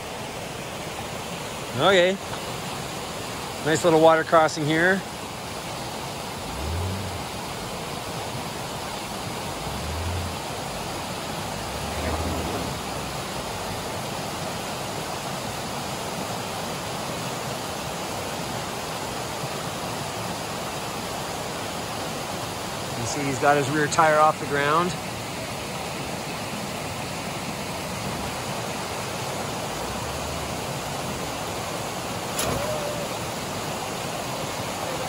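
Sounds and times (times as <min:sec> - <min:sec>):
creek rushing over rocks: 0:00.0 - 0:35.0.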